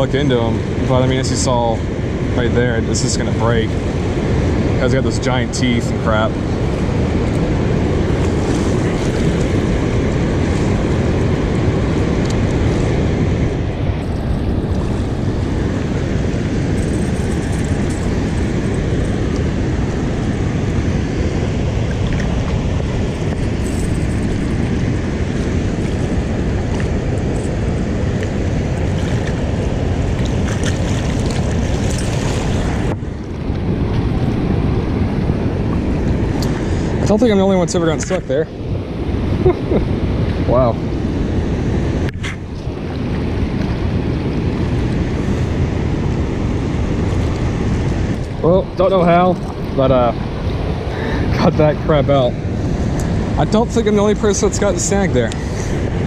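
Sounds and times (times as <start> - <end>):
water roaring through dam gates: 0.0 - 56.0
wind buffeting microphone: 0.0 - 56.0.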